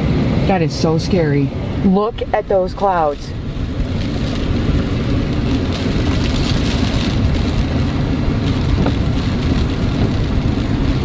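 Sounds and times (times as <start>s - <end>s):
rushing noise: 0.0s - 11.0s
truck cab low rumble: 0.0s - 11.0s.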